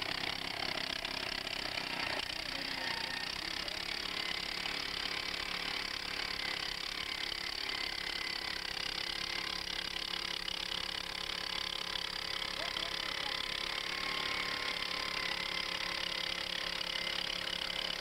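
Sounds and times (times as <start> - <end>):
earth auger engine running: 0.0 - 18.0.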